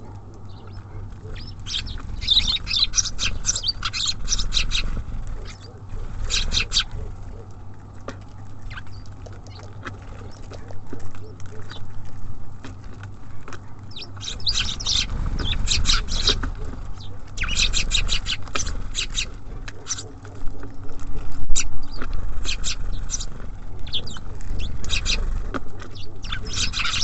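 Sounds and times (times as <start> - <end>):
low steady rumble: 0.0 - 27.0
small songbirds chirping: 0.0 - 27.0.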